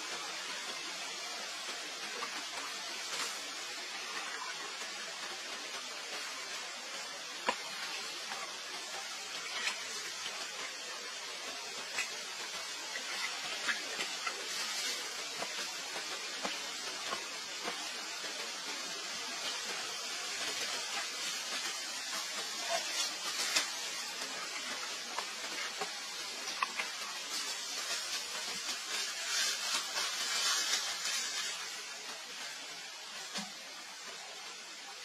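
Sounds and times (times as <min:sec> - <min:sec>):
steady rain hiss: 0:00.0 - 0:35.0
drip-like ticks: 0:00.5 - 0:31.4.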